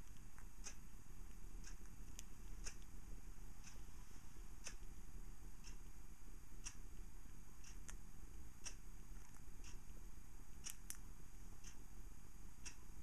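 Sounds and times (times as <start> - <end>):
low steady rumble: 0.0 - 13.0
soft sharp ticking: 0.0 - 13.0.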